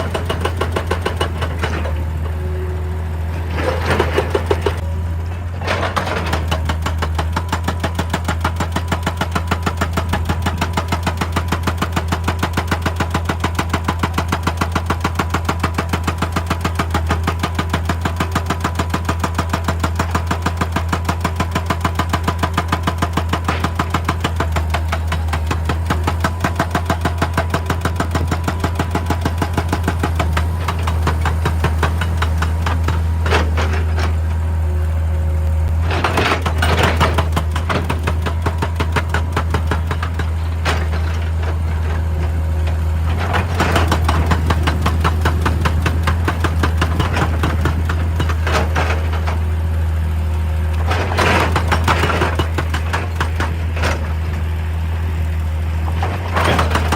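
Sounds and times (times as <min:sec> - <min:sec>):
hydraulic breaker hammering rock: 0:00.0 - 0:02.4, 0:03.4 - 0:05.0, 0:05.6 - 0:34.6, 0:35.7 - 0:49.7, 0:50.8 - 0:54.6, 0:55.8 - 0:56.9
diesel engine drone: 0:00.0 - 0:56.9.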